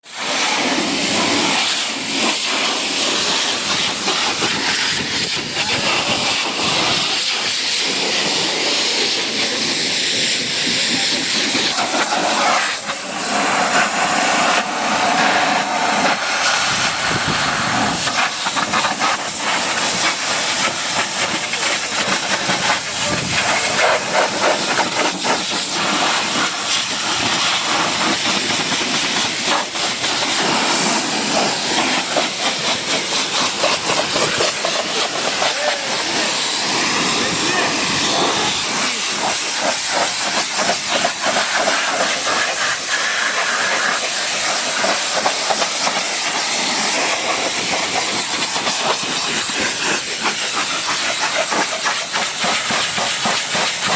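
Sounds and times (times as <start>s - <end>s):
pressure washer spraying water: 0.0s - 53.9s.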